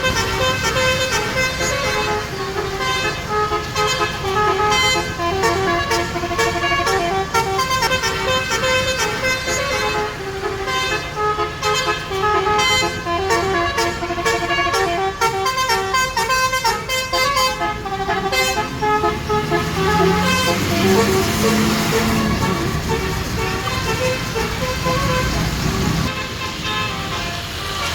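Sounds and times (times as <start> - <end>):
bus engine running: 0.0 - 27.9
multi-tone bus horn melody: 0.0 - 27.9.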